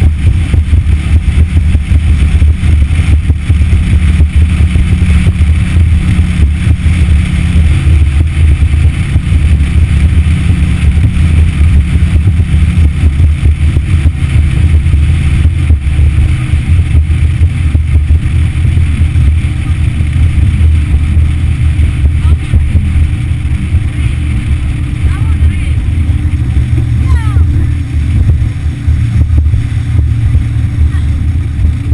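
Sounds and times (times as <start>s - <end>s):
outboard motor droning: 0.0s - 31.9s.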